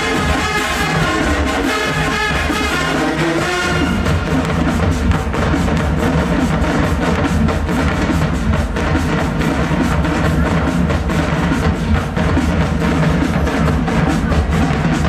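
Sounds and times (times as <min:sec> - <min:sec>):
bass drums and snares pounding: 0:00.0 - 0:15.0
marching band music: 0:00.0 - 0:15.0.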